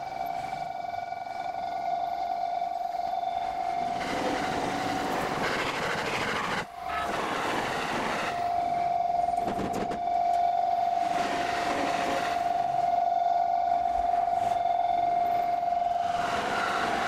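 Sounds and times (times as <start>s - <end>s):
level crossing alarm tone: 0.0s - 17.0s
trains passing: 2.0s - 17.0s.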